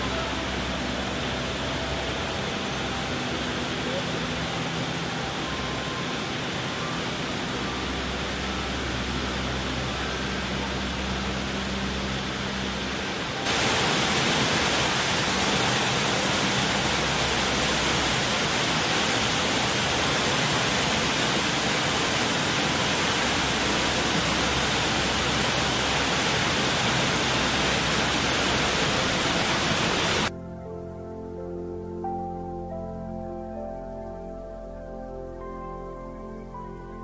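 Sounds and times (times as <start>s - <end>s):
fountain water splashing: 0.0s - 30.3s.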